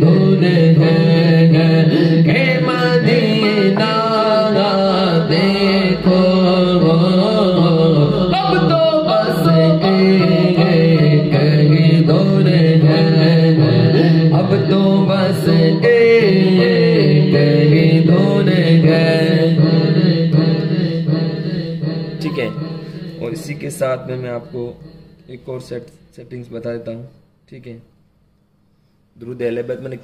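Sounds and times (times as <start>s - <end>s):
man singing with echo: 0.0s - 26.0s.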